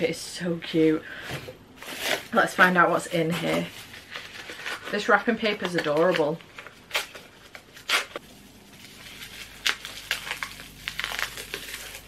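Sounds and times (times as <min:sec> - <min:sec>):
wrapping paper rustling: 0:01.8 - 0:12.0.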